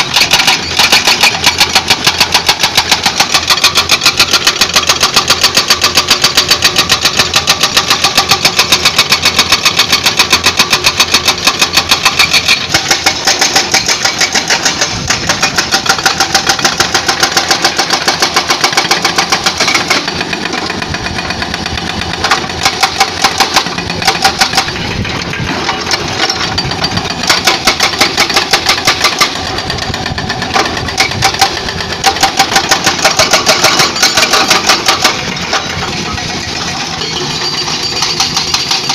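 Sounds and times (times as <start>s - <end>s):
excavator engine running: 0.0s - 38.9s
hydraulic breaker hammering rock: 0.0s - 38.9s.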